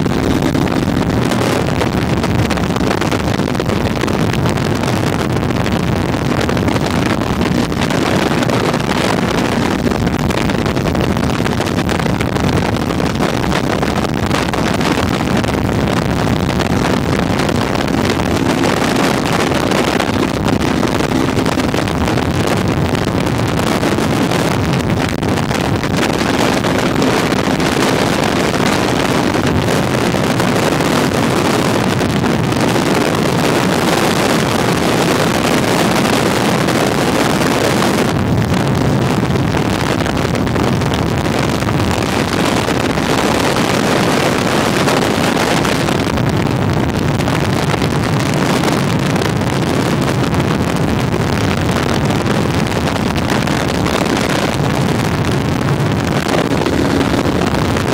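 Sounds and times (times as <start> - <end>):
motorcycle engine drone: 0.0 - 57.9
wind rush on microphone: 0.0 - 57.9.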